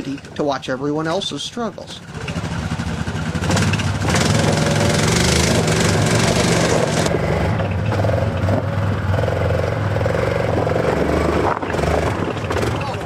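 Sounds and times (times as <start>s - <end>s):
quad engine running under load: 1.3s - 13.0s.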